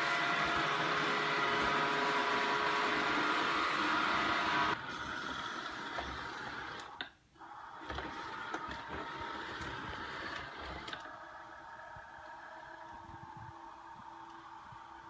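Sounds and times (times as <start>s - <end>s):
robot vacuum motor and brush whir: 0.0s - 15.0s.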